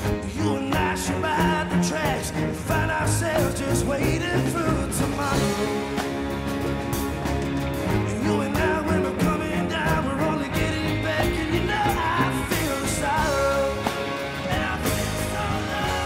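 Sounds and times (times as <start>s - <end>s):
man singing: 0.0s - 6.4s, 7.9s - 16.0s
backing band playing: 0.0s - 16.0s
drums: 0.0s - 16.0s.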